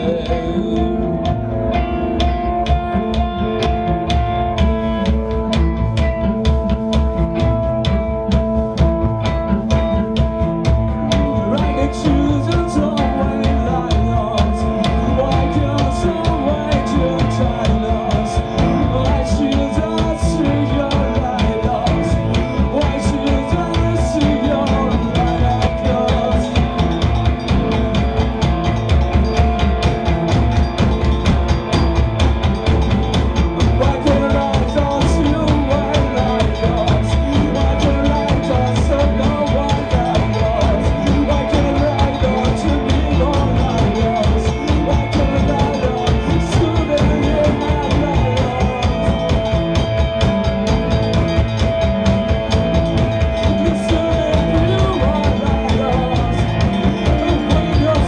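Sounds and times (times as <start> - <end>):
bass and guitars: 0.0 - 58.0
drum kit beating: 0.0 - 58.0.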